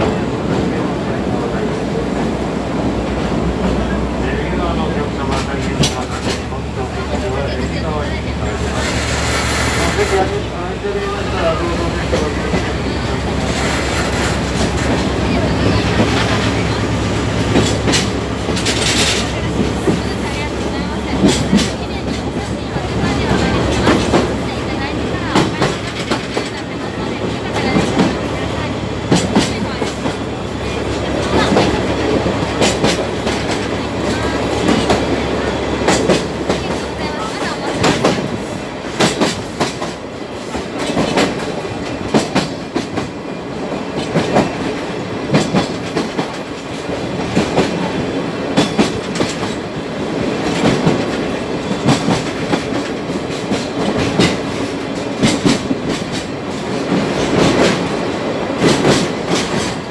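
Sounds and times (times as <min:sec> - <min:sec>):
train wheels rumbling on track: 0:00.0 - 0:59.9
wheels clacking over rail joints: 0:00.0 - 0:59.9.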